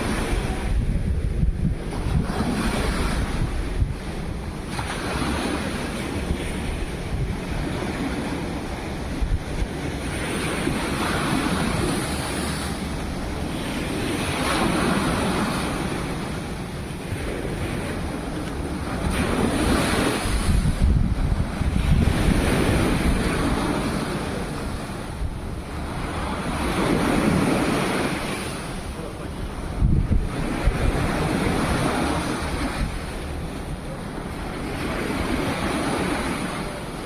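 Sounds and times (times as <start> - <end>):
sea waves washing on shore: 0.0 - 37.0
wind buffeting microphone: 0.0 - 37.0.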